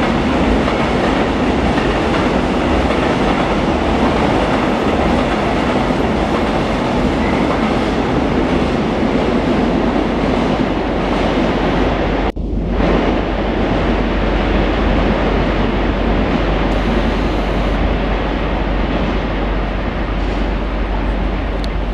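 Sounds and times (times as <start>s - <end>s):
freight train rolling past: 0.0s - 21.9s.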